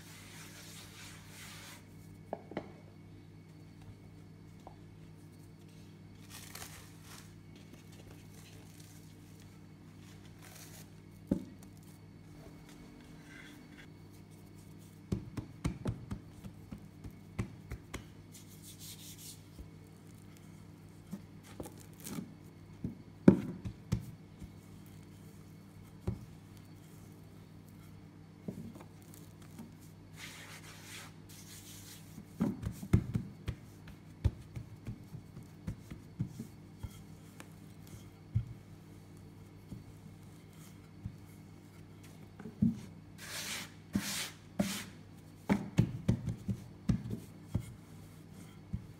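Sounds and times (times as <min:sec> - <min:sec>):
hands kneading dough: 0:00.0 - 0:02.4, 0:03.4 - 0:48.9.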